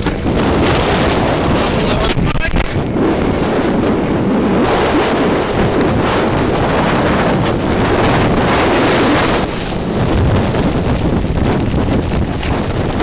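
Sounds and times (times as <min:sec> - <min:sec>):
rushing water and spray: 0:00.0 - 0:13.0
wind buffeting microphone: 0:00.0 - 0:13.0.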